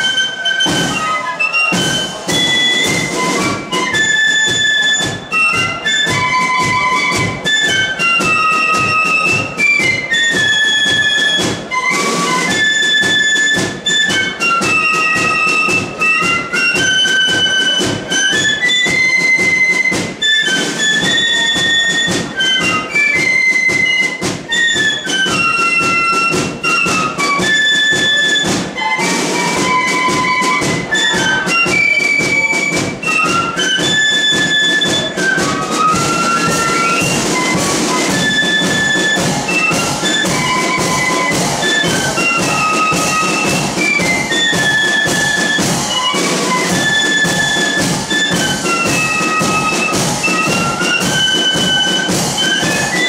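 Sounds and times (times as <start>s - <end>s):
bass drum and snare march beat: 0.0s - 53.0s
flutes playing melody: 0.0s - 53.0s.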